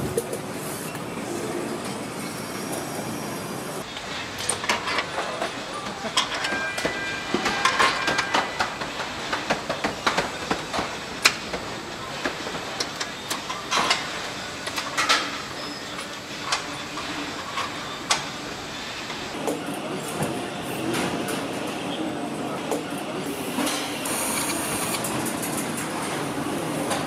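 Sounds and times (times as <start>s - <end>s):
machinery noise: 0.0s - 9.8s, 15.0s - 27.0s.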